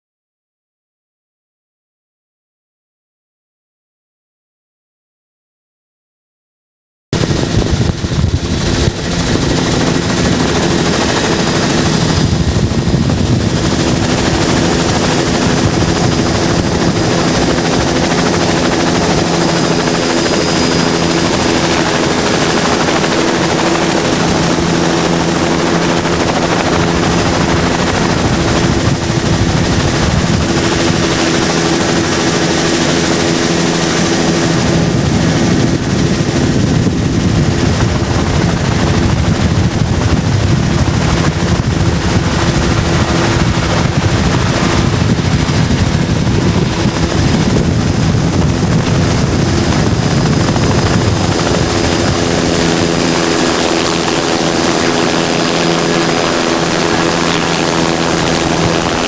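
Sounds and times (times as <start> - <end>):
wind noise: 7.2 - 59.0.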